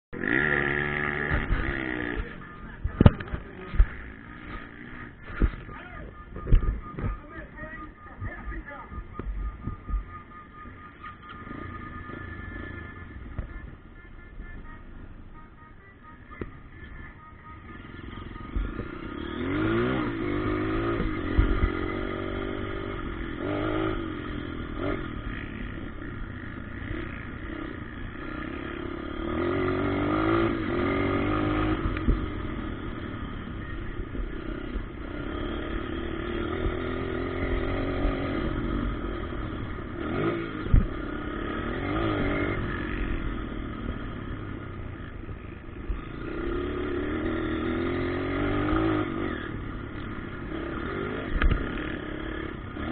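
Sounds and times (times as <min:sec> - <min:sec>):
dirt bike engines revving: 0:00.1 - 0:52.9.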